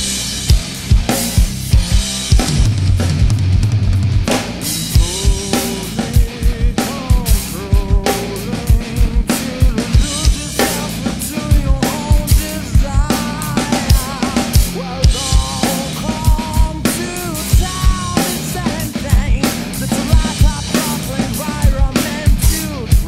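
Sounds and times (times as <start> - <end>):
recorded rock song: 0.0 - 23.0
rock drum kit: 0.0 - 23.0.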